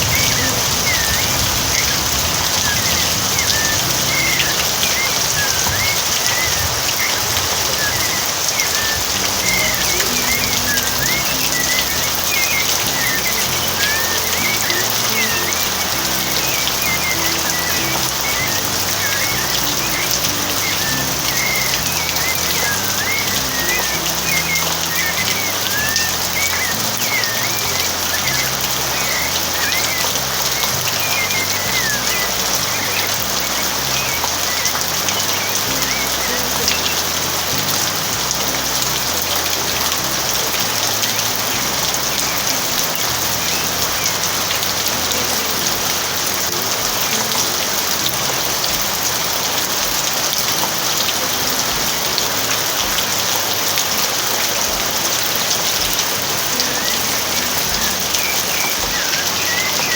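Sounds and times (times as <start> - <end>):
bird singing: 0.0 - 59.9
heavy rain pattering: 0.0 - 59.9.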